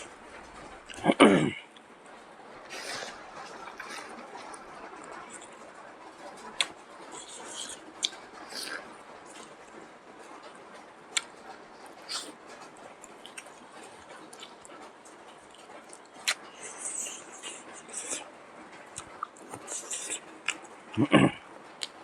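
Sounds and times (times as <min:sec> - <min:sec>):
chewing with wet smacks: 0:02.6 - 0:22.0.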